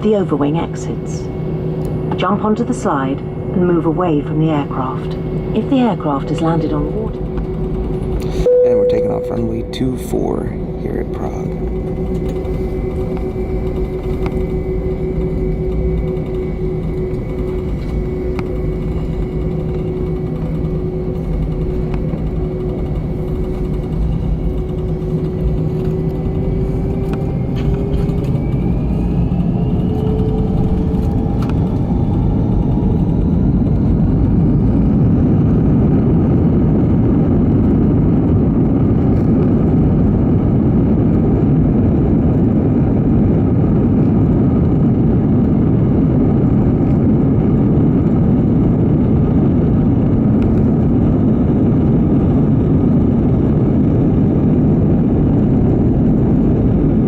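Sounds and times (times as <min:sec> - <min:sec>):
jet engines whining: 0:00.0 - 0:57.0
takeoff roar: 0:00.0 - 0:57.0.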